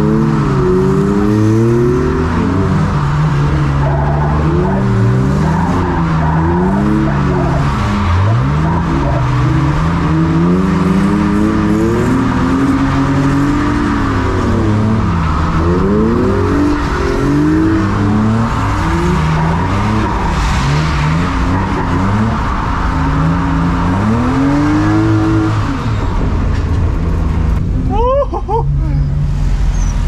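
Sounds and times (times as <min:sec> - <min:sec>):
car engines revving: 0:00.0 - 0:30.0
tyre and road noise: 0:00.0 - 0:30.0.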